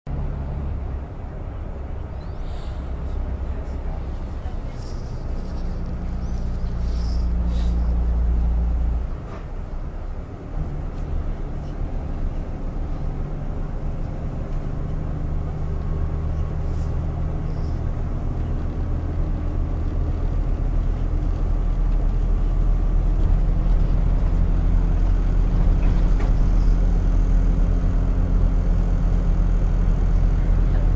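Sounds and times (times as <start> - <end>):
bus engine rumble: 0.1 - 30.9.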